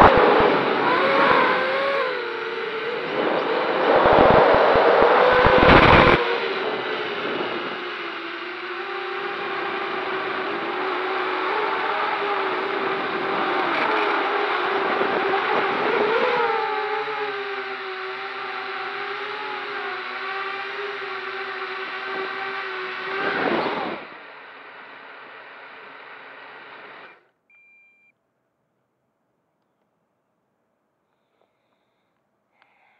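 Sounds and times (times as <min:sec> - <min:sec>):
quadcopter motors whining: 0:00.0 - 0:27.2.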